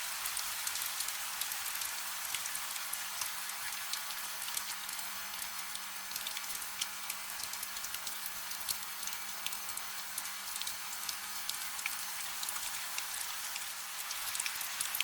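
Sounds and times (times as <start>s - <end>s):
gentle rain hissing: 0.0s - 15.0s
raindrops ticking on a surface: 0.0s - 15.0s.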